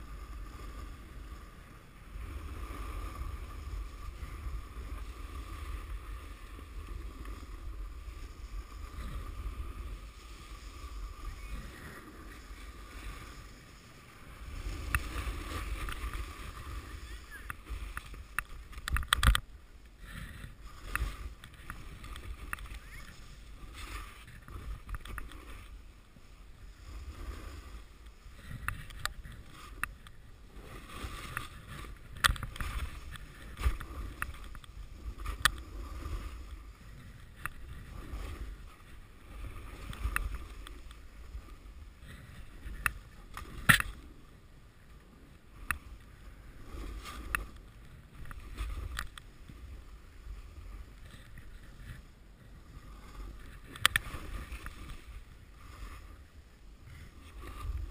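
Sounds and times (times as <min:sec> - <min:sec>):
wind rumble on microphone: 0:00.0 - 0:57.9.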